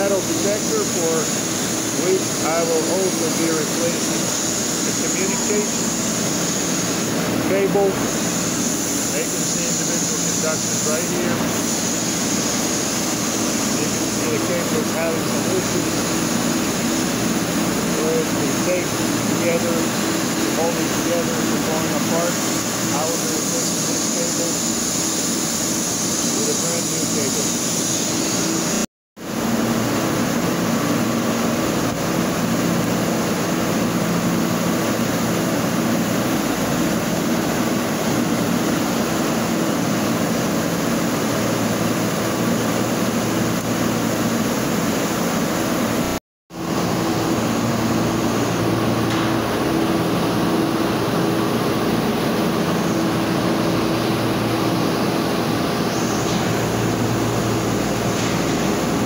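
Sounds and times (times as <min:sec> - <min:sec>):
factory machinery roar: 0:00.0 - 0:59.0.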